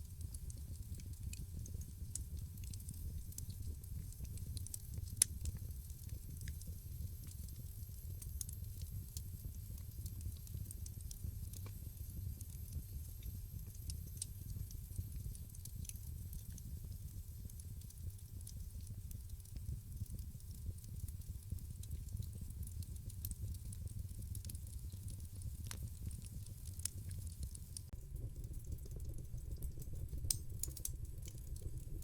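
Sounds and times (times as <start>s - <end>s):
wood fire crackling: 0.1s - 32.0s.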